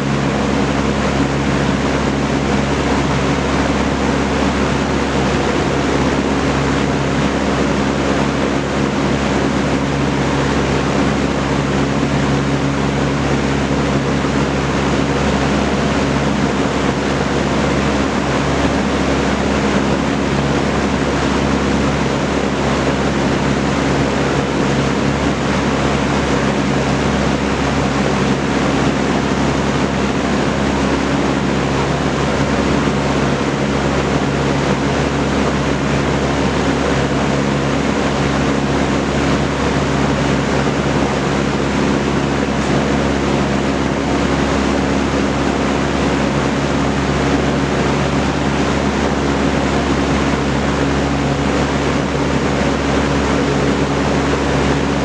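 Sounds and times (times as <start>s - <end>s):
box fan running: 0.0s - 55.0s.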